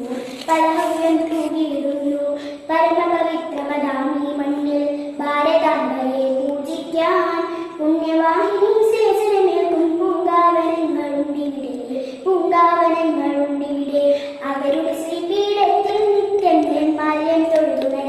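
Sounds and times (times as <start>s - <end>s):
girl singing: 0.0s - 18.0s.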